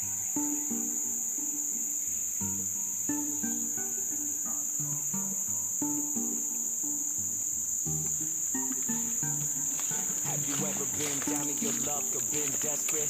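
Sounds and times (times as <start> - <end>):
high-pitched insect chorus: 0.0 - 13.0
plucked notes music: 0.0 - 13.0.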